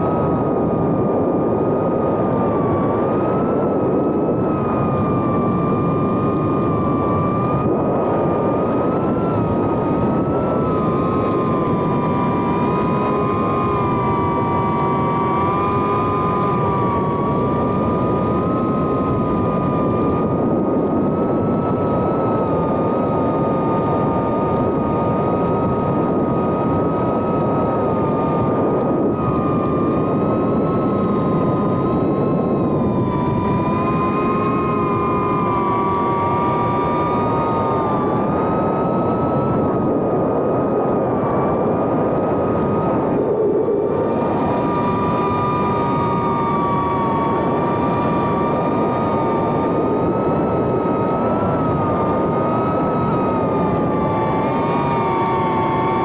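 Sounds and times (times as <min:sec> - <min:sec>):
drone motors whining: 0:00.1 - 0:56.0.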